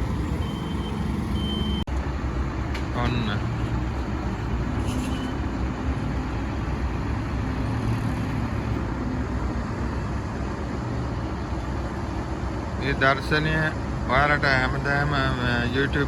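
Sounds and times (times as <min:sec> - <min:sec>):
paving machinery engine drone: 0:00.0 - 0:16.0.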